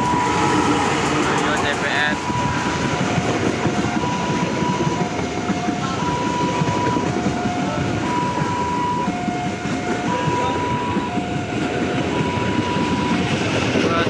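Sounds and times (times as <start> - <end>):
two-tone electronic warning signal: 0.0 - 0.7, 1.3 - 13.5
train wheels rumbling on rails: 0.0 - 14.0.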